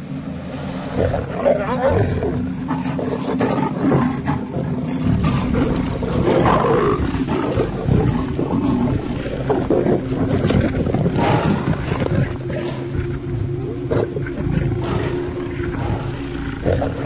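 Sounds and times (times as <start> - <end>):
lions growling and snarling: 0.0 - 17.0.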